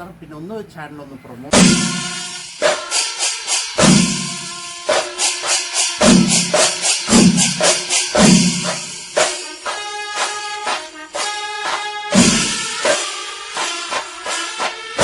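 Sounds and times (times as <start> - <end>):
quick percussion strokes: 1.5 - 15.0.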